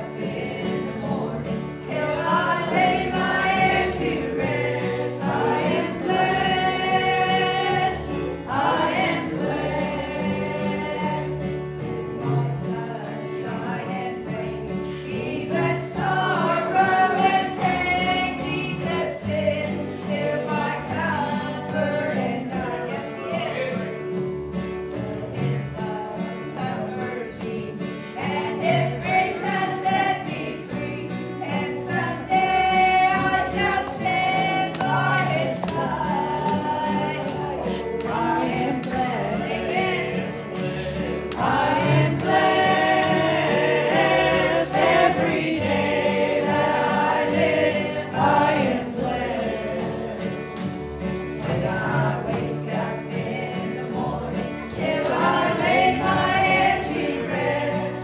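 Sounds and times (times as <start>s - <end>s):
woman singing gospel: 0.0s - 23.7s, 25.0s - 50.5s, 51.4s - 58.0s
instrumental accompaniment: 0.0s - 58.0s.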